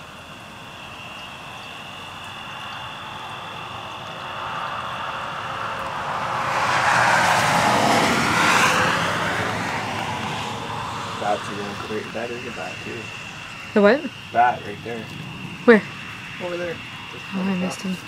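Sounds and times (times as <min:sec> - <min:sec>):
car driving past: 0:01.5 - 0:18.0.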